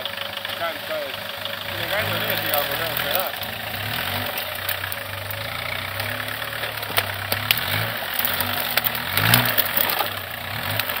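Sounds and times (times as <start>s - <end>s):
diesel engine revving: 0.0s - 11.0s
branches cracking under wheels: 1.7s - 11.0s.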